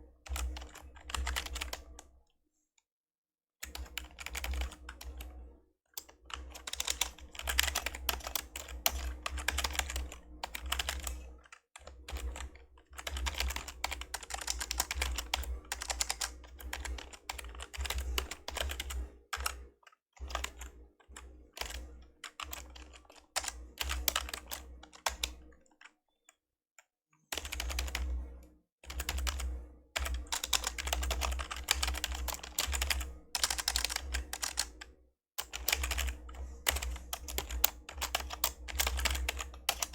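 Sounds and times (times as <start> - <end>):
soft keyboard typing: 0.2 - 2.1, 3.6 - 5.4, 6.0 - 26.4, 27.3 - 39.9.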